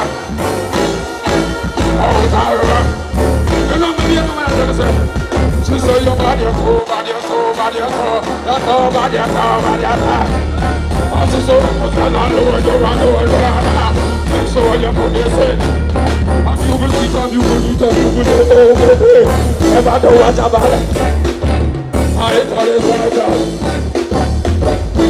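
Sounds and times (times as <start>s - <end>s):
reggae band playing: 0.0s - 25.0s
person singing: 1.2s - 21.0s, 22.1s - 25.0s.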